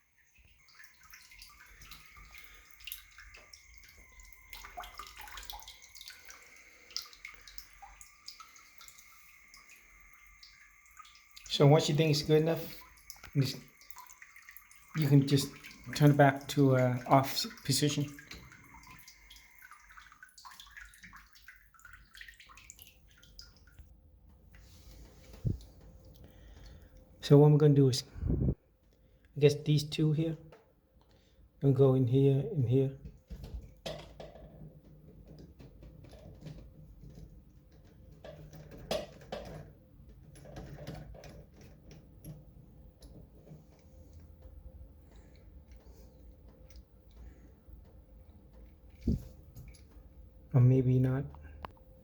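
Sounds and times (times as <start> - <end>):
water dripping into tub: 0.0 - 23.9, 25.2 - 27.1, 32.9 - 50.5.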